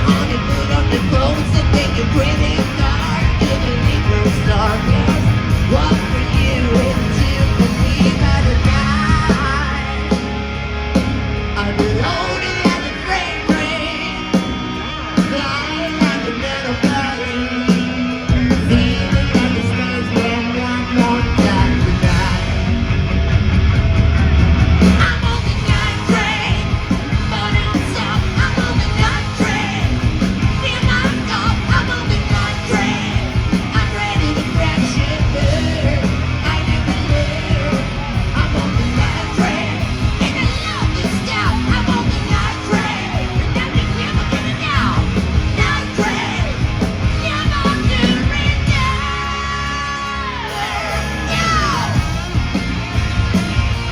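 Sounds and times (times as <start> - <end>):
lead singer's vocal: 0.0 - 10.4, 11.5 - 22.7, 24.8 - 52.2
hard rock band playing: 0.0 - 53.9.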